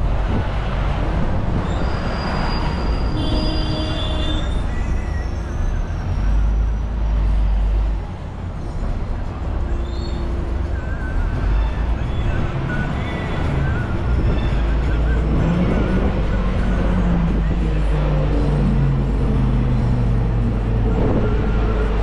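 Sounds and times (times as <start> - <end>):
traffic rumble: 0.0 - 22.0
high-pitched squealing tones: 1.5 - 7.8, 9.6 - 22.0.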